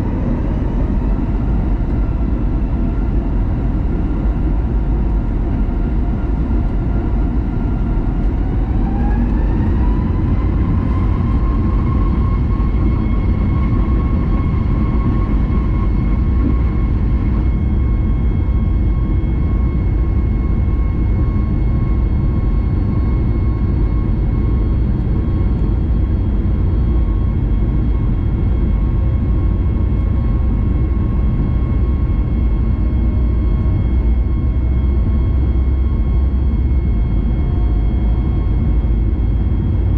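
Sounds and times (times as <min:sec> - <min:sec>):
jet engine roar: 0:00.0 - 0:39.9
jet engine whine: 0:00.0 - 0:39.9.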